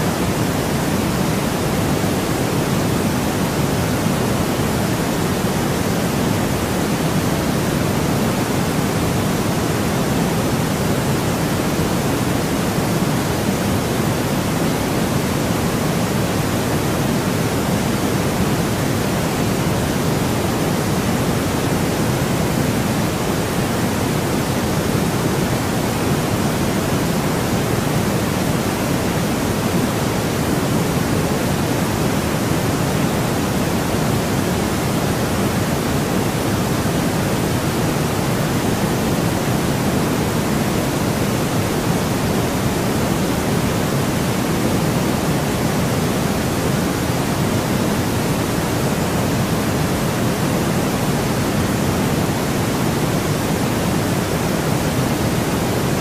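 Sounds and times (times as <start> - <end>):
steady synthetic pink noise: 0.0 - 56.0.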